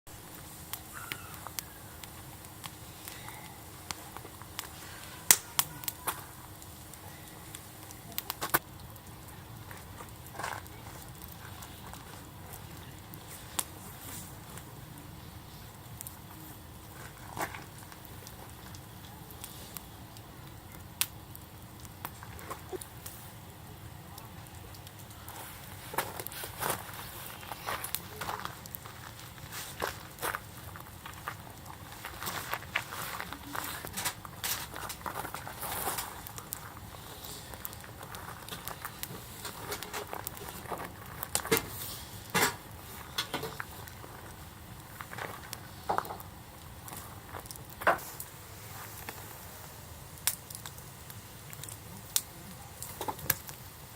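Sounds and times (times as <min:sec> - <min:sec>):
campfire crackling and popping: 0:00.1 - 0:53.9.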